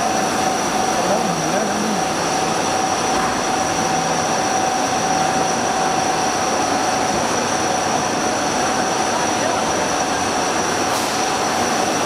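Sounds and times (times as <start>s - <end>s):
high-pitched machine whine: 0.0s - 12.0s
mid-pitched machine whine: 0.0s - 12.0s.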